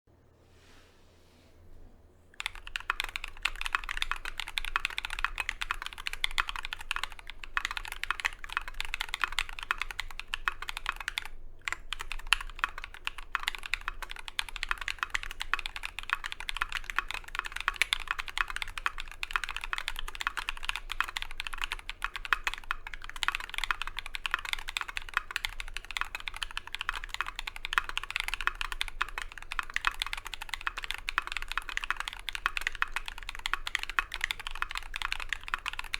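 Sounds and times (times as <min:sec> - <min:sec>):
fast mechanical keyboard typing: 0:02.4 - 0:35.9.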